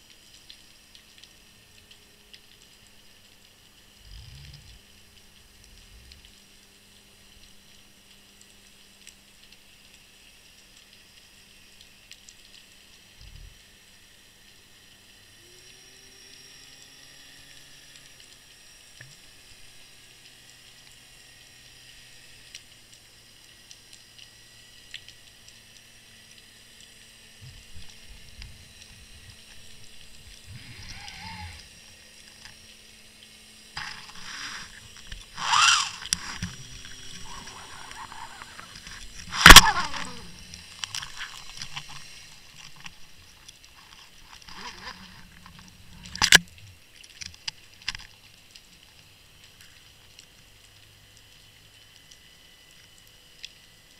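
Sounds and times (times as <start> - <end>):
faint underwater hum: 0.0 - 53.9
water movement and sloshing: 0.0 - 53.9.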